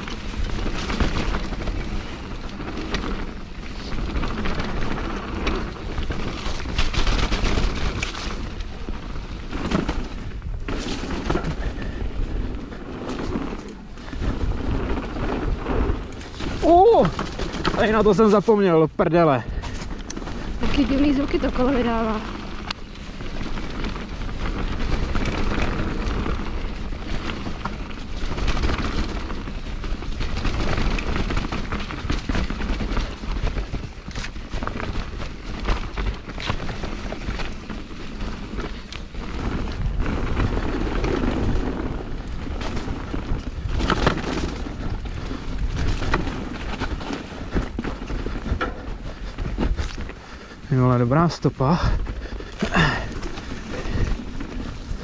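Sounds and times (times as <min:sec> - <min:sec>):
bike rattling and knocking: 0:00.0 - 0:55.0
wind and tyres rumbling: 0:00.0 - 0:55.0.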